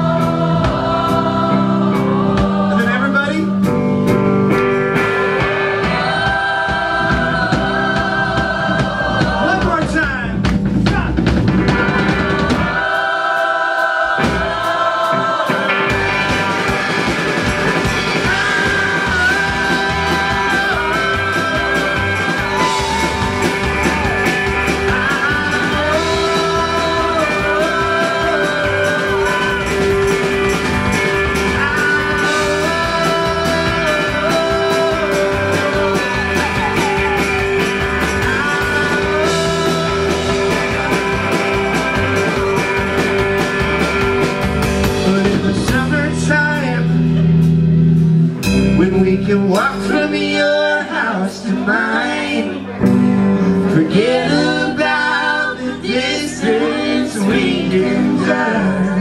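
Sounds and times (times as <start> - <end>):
live rock band with singing: 0.0 - 59.0.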